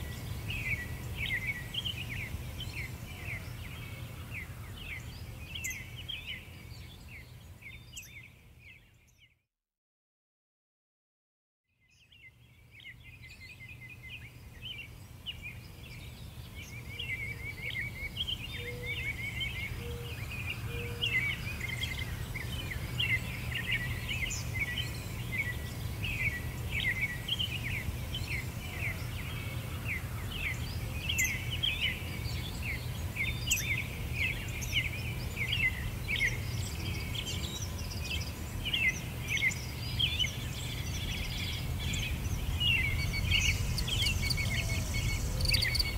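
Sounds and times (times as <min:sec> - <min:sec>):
small birds chirping: 0:00.0 - 0:09.4, 0:11.9 - 0:45.9.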